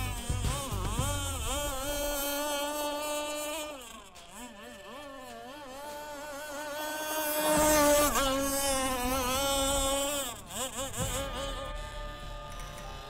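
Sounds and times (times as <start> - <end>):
model boat motor whining: 0.0 - 13.0.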